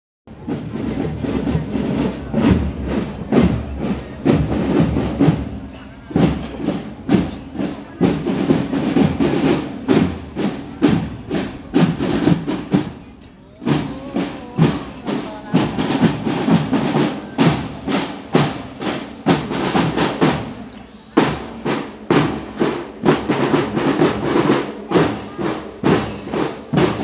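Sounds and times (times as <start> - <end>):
marching drum band: 0.3 - 27.0.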